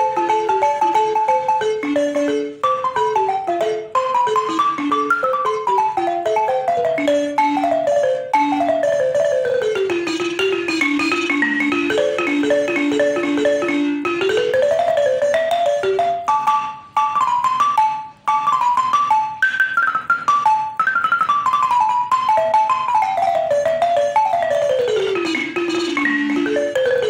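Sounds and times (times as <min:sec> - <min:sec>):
balafon played with mallets: 0:00.0 - 0:27.0.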